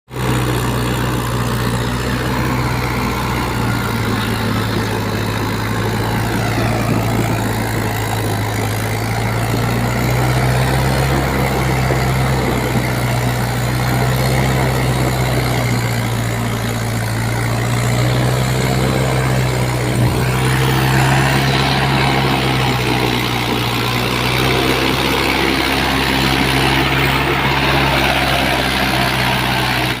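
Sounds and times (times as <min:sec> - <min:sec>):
tractor diesel engine droning: 0:00.1 - 0:30.0.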